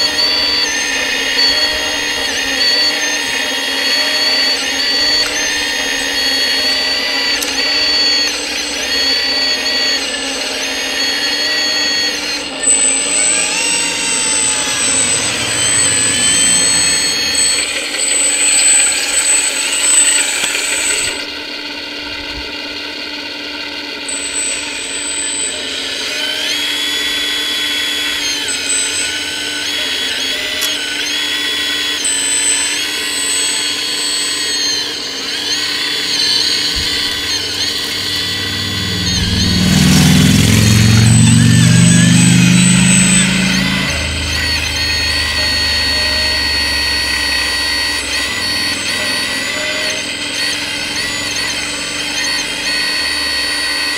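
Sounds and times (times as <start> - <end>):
hydraulic pump whining: 0.0 - 53.9.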